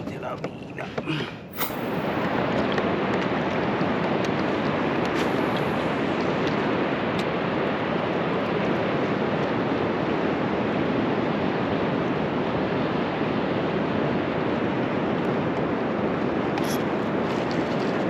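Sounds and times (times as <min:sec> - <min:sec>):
wind rushing on microphone: 0:01.5 - 0:18.0.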